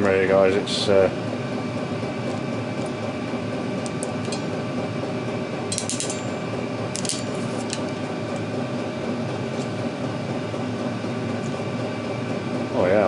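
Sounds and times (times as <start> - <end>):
fan-like hum: 0.0 - 13.0.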